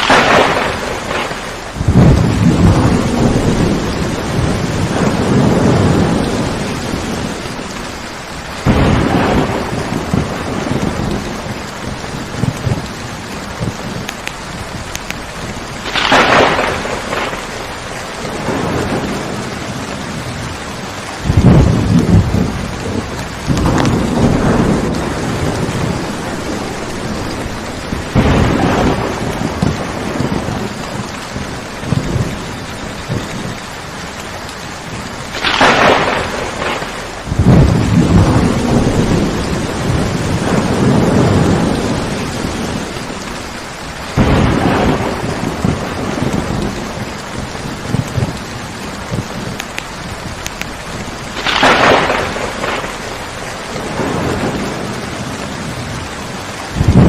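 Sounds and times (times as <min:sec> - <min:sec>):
steady rainfall: 0:00.0 - 0:57.0
thunder cracking: 0:00.0 - 0:57.0
thunder rumbling: 0:00.0 - 0:57.0.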